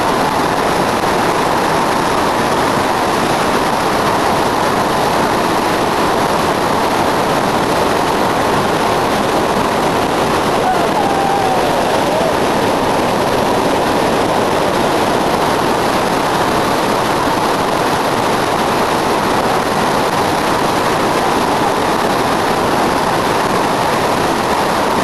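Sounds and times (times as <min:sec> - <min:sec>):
water rushing over rocks: 0:00.0 - 0:25.0.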